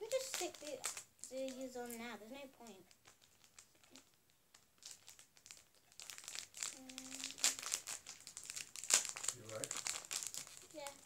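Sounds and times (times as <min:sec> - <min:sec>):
craft materials crinkling: 0:00.0 - 0:11.0.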